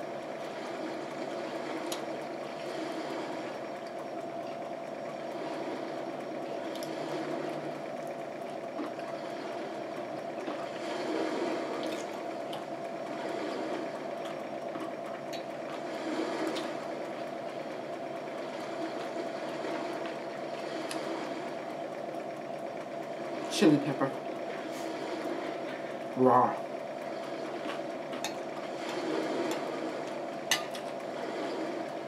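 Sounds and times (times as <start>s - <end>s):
steady droning hum: 0.0s - 32.0s.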